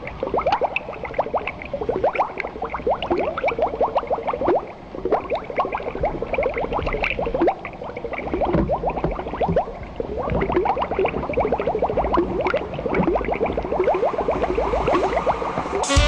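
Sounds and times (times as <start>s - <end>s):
water bubbling and gurgling: 0.0s - 15.8s.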